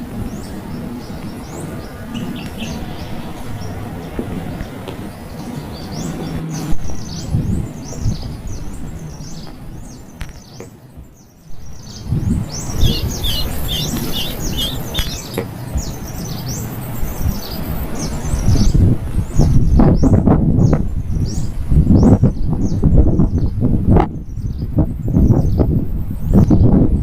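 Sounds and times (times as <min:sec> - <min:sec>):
small birds chirping: 0:00.0 - 0:26.8
low rumbling noise: 0:00.0 - 0:27.0.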